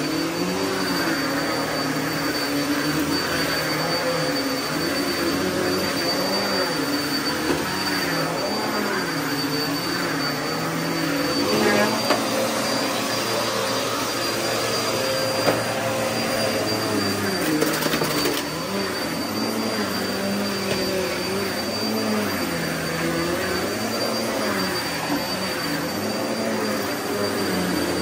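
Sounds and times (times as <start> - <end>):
upright vacuum cleaner running: 0.0 - 28.0.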